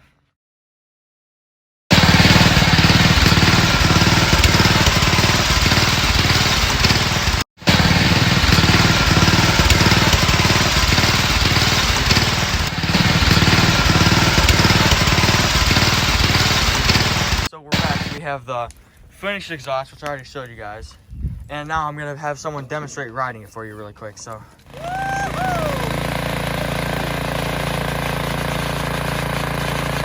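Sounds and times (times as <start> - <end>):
mower engine pulsing exhaust: 1.9 - 21.5, 23.8 - 30.0.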